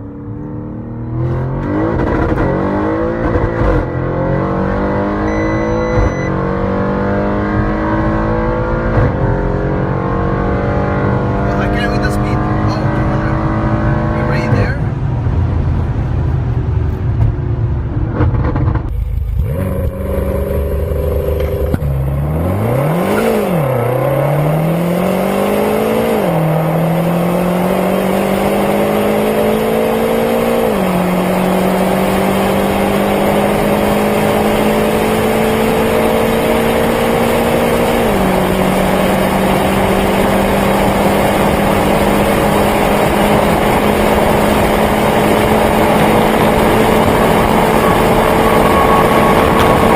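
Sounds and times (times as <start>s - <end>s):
car engine accelerating hard: 0.0s - 49.9s.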